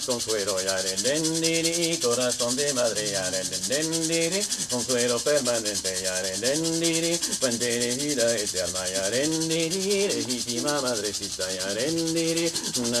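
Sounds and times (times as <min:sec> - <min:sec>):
leaf rattle shaken: 0:00.0 - 0:13.0
man humming: 0:00.0 - 0:13.0.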